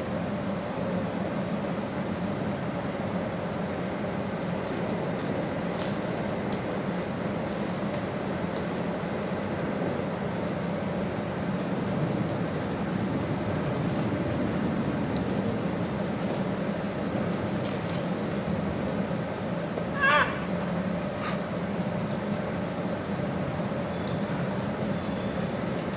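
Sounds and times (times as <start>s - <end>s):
road traffic drone: 0.0s - 25.9s.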